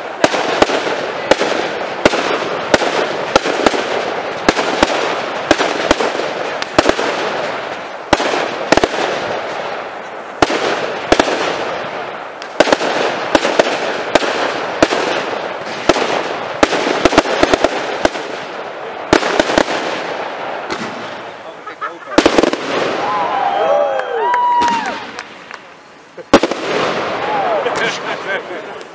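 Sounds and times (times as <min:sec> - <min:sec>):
firework shells bursting: 0:00.0 - 0:21.4, 0:24.5 - 0:28.9
firework crackle: 0:00.0 - 0:28.9.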